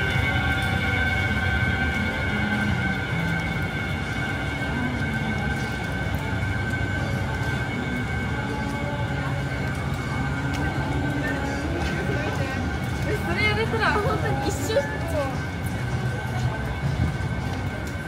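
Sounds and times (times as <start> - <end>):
city street noise: 0.0 - 18.0
continuous high-pitched whine: 0.0 - 18.0.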